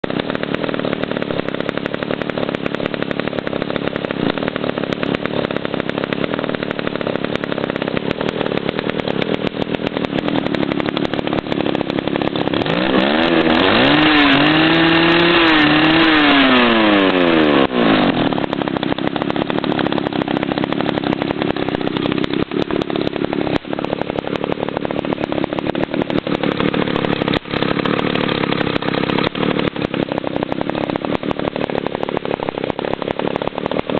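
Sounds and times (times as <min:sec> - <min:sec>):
chainsaw engine idling and revving: 0:00.0 - 0:33.9.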